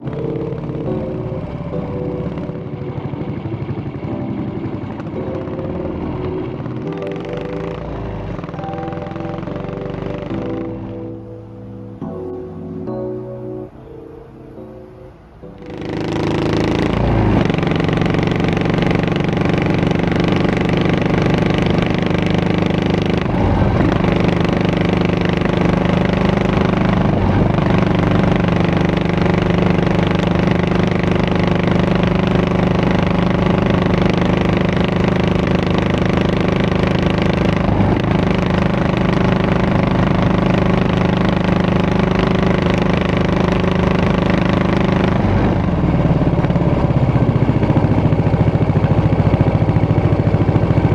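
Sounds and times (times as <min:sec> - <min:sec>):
motorcycle engine running: 0:00.0 - 0:12.8, 0:15.2 - 0:50.9.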